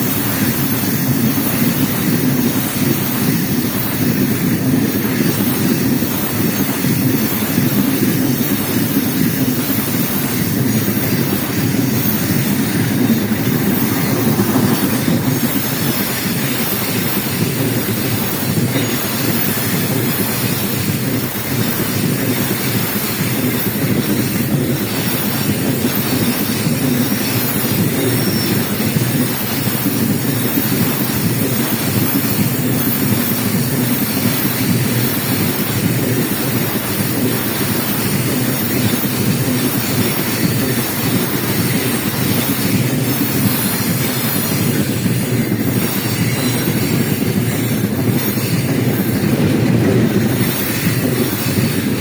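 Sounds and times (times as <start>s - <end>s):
freight train wheels rumbling on rails: 0.0s - 52.0s.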